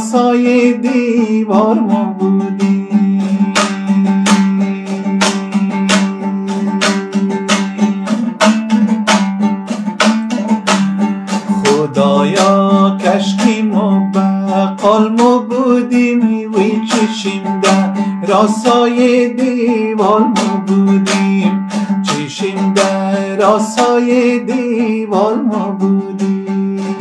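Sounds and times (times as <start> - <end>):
fast strummed plucked strings: 0.0 - 27.0.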